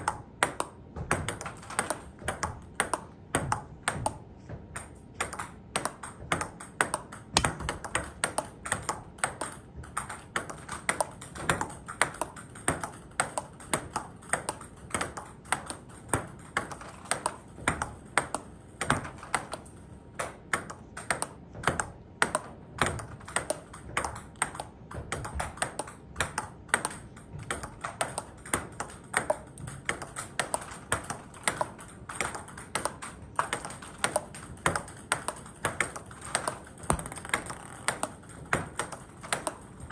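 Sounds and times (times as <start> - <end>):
ball bouncing on table: 0.0 - 39.9
ping pong ball hitting paddles: 0.0 - 39.9.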